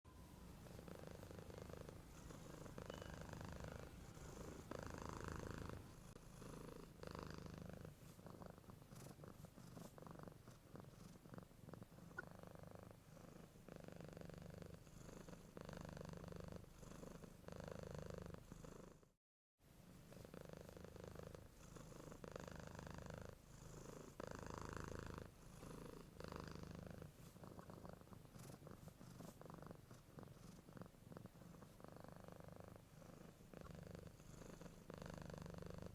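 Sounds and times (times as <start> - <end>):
cat snoring faintly: 0.1 - 19.2, 19.9 - 35.9.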